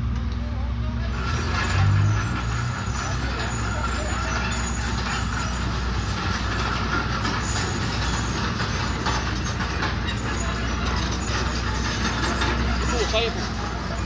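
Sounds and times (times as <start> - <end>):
diesel engine rumbling: 0.0 - 14.0
light metallic clatter: 1.1 - 14.0.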